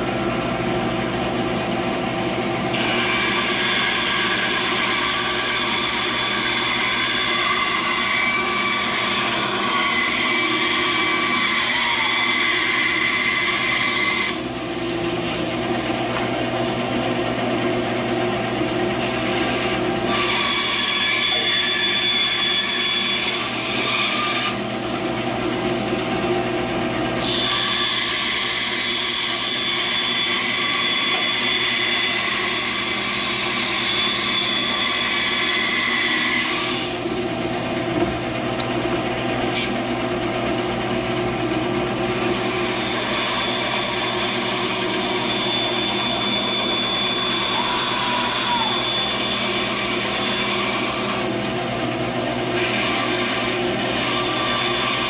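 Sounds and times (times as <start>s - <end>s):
band saw motor hum: 0.0s - 55.0s
saw blade cutting wood: 2.6s - 16.4s, 19.0s - 24.8s, 27.1s - 38.7s, 39.3s - 39.8s, 42.0s - 55.0s.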